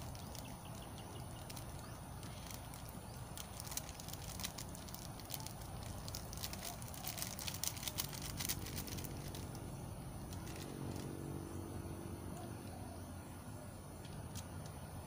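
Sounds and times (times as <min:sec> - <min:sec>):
faint low hum: 0:00.0 - 0:15.0
outdoor background noise: 0:00.0 - 0:15.0.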